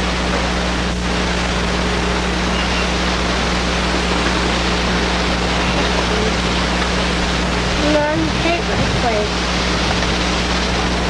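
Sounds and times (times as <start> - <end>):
low electrical hum: 0.0 - 11.0
steady hiss: 0.0 - 11.0.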